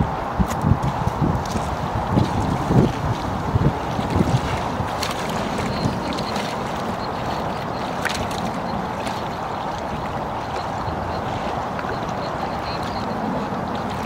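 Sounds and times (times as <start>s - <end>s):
steady wind: 0.0s - 14.0s
water lapping on stony shore: 0.0s - 14.0s.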